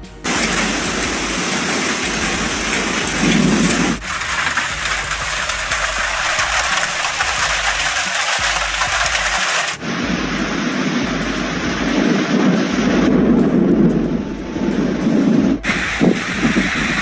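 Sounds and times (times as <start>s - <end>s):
heavy rain downpour: 0.0s - 17.0s.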